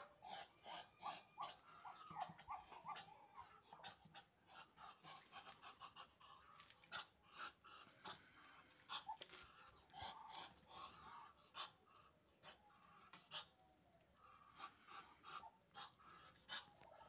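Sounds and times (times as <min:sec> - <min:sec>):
ducks huffing and hissing: 0:00.0 - 0:17.0.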